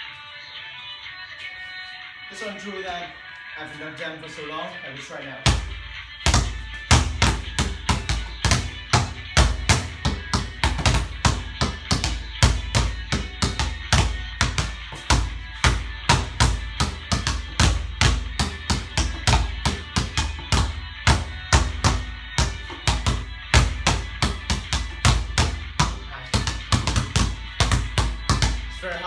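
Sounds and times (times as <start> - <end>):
basketball dribbling on court: 5.4 - 29.0.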